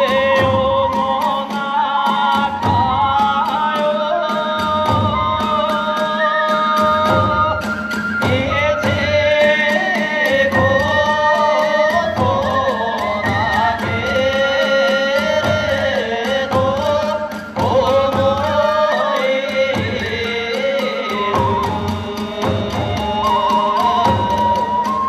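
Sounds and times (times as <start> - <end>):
bamboo flute melody: 0.0 - 25.0
drums: 0.0 - 25.0.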